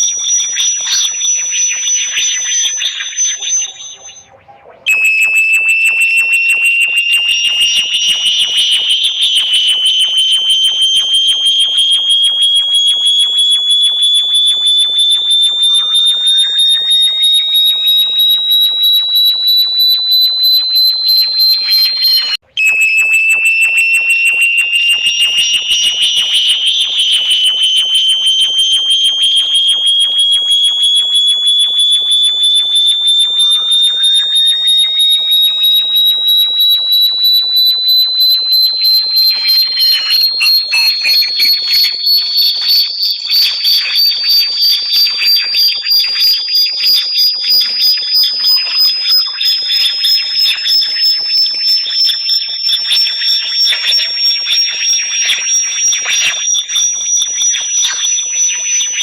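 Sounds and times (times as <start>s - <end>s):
high-pitched electronic tone: 0.0s - 59.0s
sweeping electronic chirps: 0.0s - 59.0s.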